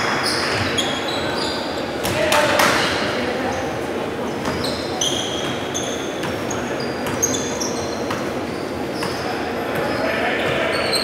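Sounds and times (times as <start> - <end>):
shoes squeaking on gym floor: 0.0 - 2.2, 3.5 - 11.0.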